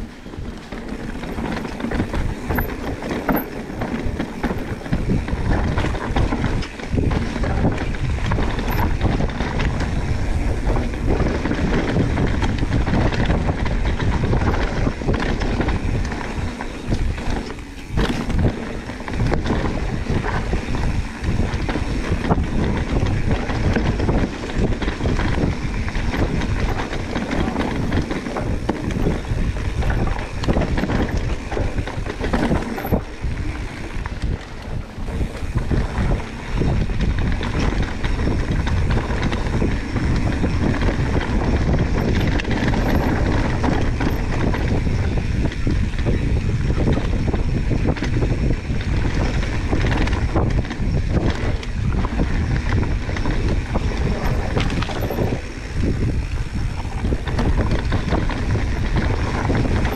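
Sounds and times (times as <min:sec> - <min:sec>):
bike knocks and rattles: 0:00.0 - 0:59.9
bike tyre rolling on dirt: 0:00.0 - 0:59.9
wind rushing over microphone: 0:00.0 - 0:59.9.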